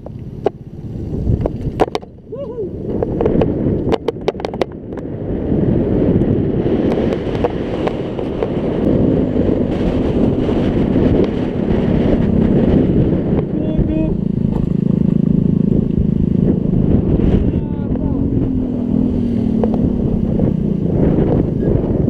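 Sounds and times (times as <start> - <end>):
scooter engine running: 0.0 - 22.0
wind buffeting microphone: 0.0 - 22.0.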